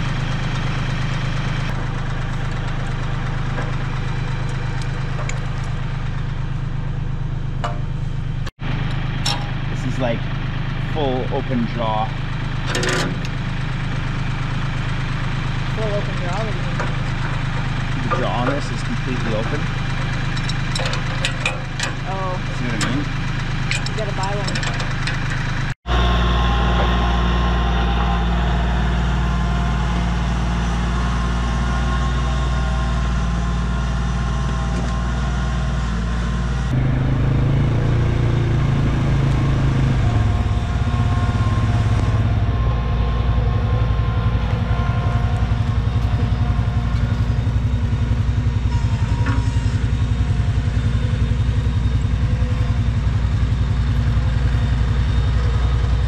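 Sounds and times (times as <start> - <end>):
quad bike engine idling: 0.0 - 56.0
tractor engine under load: 0.0 - 56.0.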